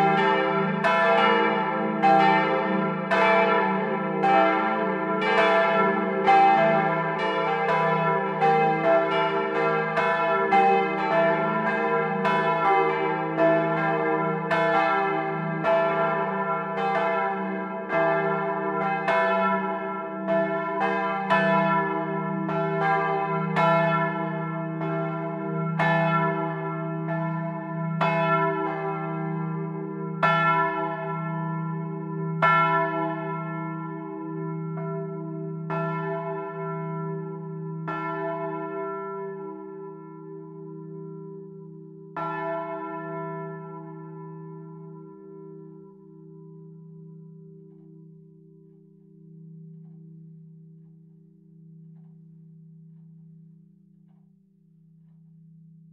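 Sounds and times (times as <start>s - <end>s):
church bells ringing: 0.0s - 53.4s.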